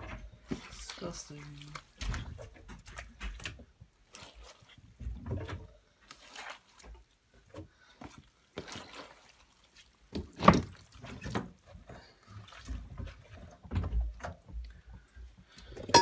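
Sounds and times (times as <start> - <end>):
water dripping and splashing: 0.0 - 16.0
wet fabric squelching: 0.4 - 13.9.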